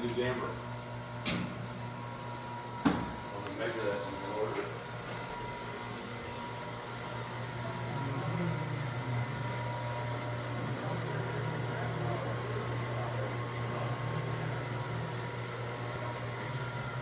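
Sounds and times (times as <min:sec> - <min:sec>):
air compressor humming and hissing: 0:00.0 - 0:17.0.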